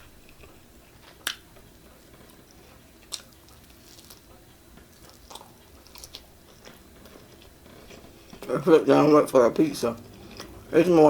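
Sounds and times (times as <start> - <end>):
faint chewing: 0.2 - 8.5, 10.0 - 10.7.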